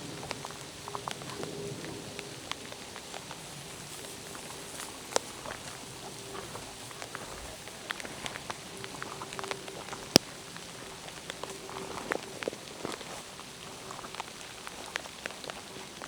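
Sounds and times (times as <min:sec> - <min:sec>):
rain falling in a forest: 0:00.0 - 0:16.0
raindrops ticking: 0:00.0 - 0:16.0.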